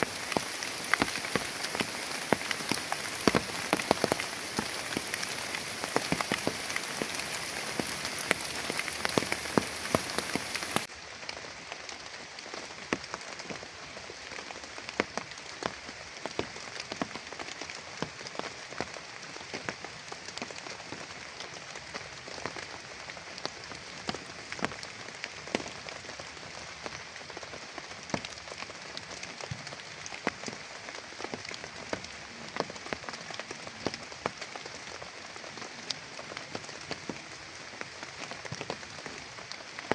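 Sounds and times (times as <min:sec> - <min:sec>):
heavy rain falling: 0:00.0 - 0:10.9, 0:14.6 - 0:39.9.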